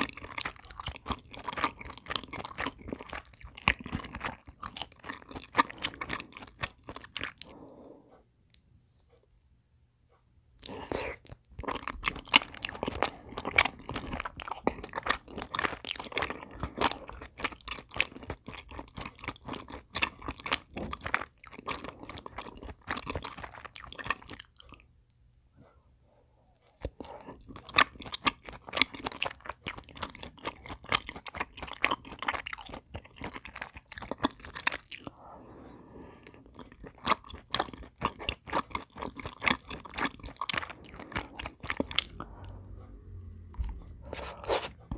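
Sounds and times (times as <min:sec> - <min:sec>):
chewing rice cakes: 0:00.0 - 0:07.6, 0:10.6 - 0:24.9, 0:26.6 - 0:44.9.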